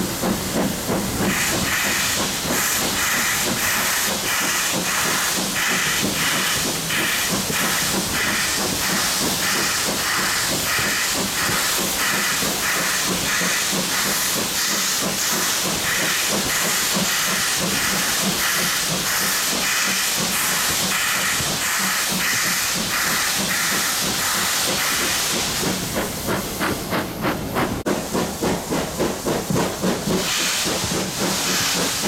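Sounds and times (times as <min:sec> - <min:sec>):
locomotive hissing and pulsing: 0:00.0 - 0:32.0.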